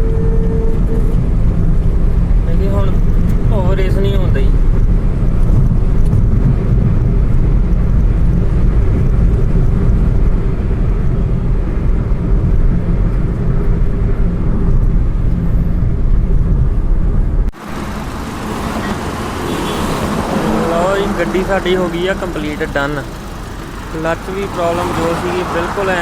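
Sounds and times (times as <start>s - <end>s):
car engine running: 0.0s - 26.0s
road noise: 0.0s - 26.0s.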